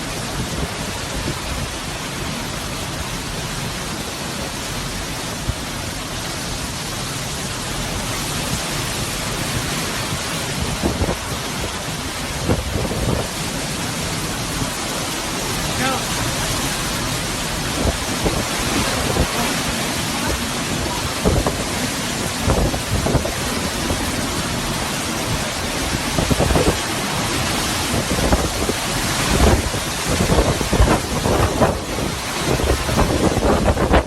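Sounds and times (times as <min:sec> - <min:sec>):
driving rain: 0:00.0 - 0:34.0
strong wind: 0:00.0 - 0:34.0
wind gusts buffeting microphone: 0:00.0 - 0:34.0.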